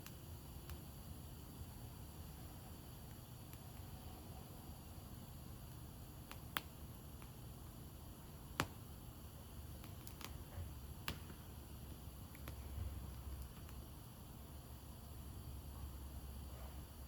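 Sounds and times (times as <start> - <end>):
wood fire crackling: 0.0 - 16.1.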